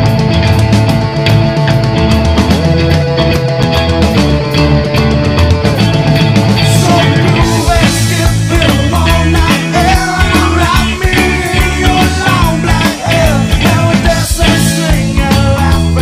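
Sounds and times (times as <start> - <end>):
drums steady beat: 0.0 - 16.0
loud rock music: 0.0 - 16.0.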